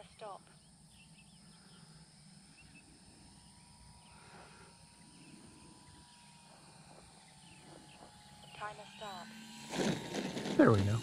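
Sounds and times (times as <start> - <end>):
faint chirps: 0.0 - 9.0
faint outdoor hum and hiss: 0.0 - 11.0.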